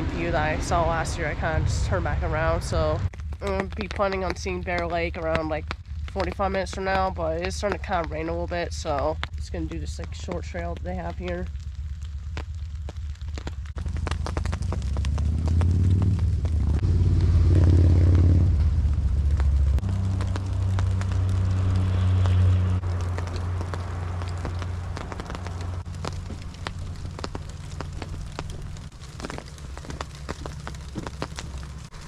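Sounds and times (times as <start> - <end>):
low rumble: 0.0 - 32.0
raindrops tapping: 0.0 - 32.0.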